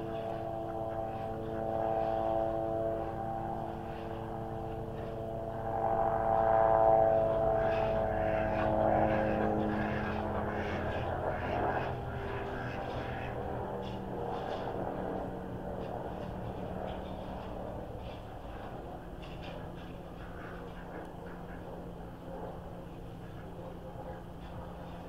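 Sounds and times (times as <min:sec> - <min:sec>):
passing engine drone: 0:00.0 - 0:25.0.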